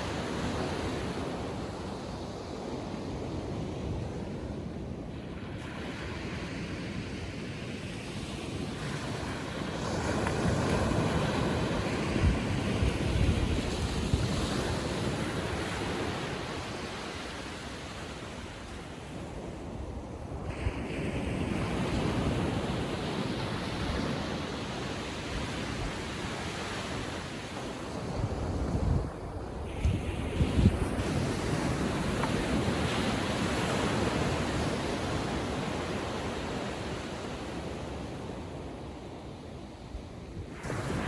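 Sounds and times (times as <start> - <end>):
small waves breaking on beach: 0.0 - 41.0
wind rumbling on microphone: 0.0 - 41.0.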